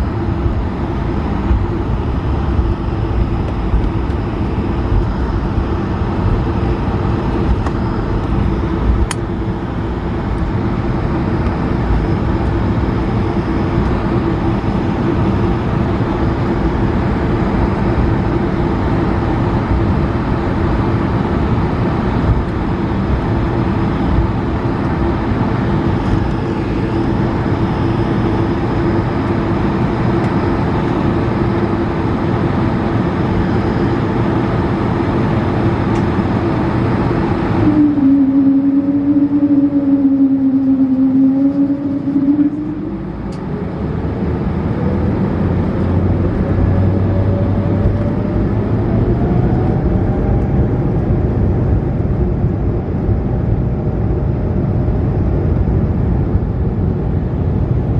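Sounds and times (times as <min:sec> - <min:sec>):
airplane cabin engine noise: 0:00.0 - 0:57.9
steady hum: 0:00.0 - 0:57.9.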